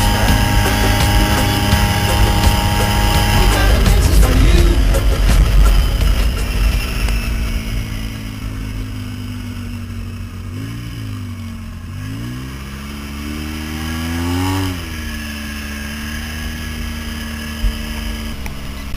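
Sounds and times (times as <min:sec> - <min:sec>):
vehicle engine revving: 0:00.0 - 0:18.9.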